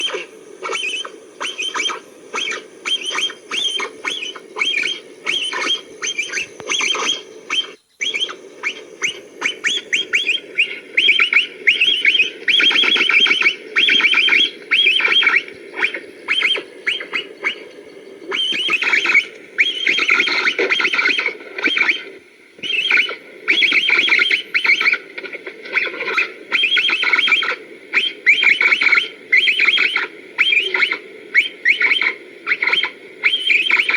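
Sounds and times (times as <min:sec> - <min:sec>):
capybaras chirping: 0:00.0 - 0:33.9
steady low hum: 0:00.0 - 0:33.9.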